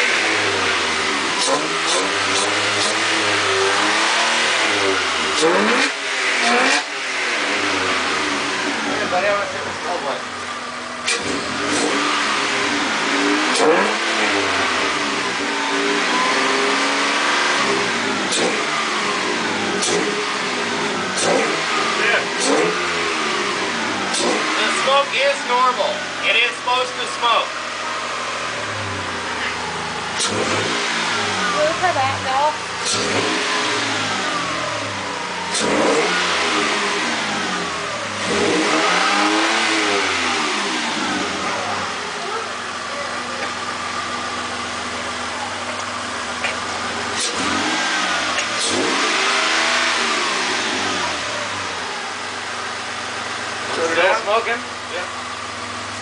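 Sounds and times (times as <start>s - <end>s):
engine revving: 0.0s - 56.0s.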